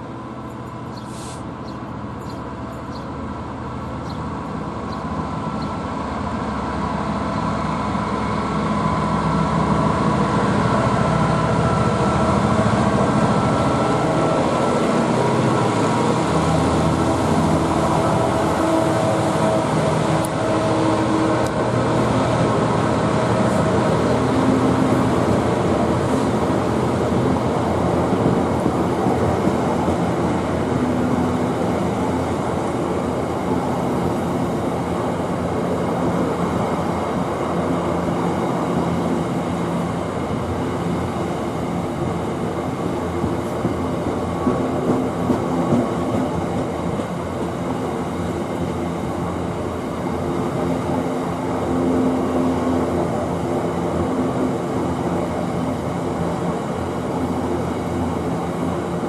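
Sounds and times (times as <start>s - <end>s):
diesel locomotive engine droning: 0.0s - 59.0s.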